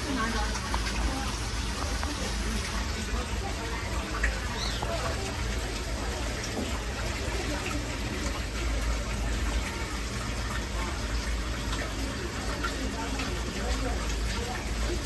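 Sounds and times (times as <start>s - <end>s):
pump and filter hum: 0.0s - 15.0s
running water: 0.0s - 15.0s.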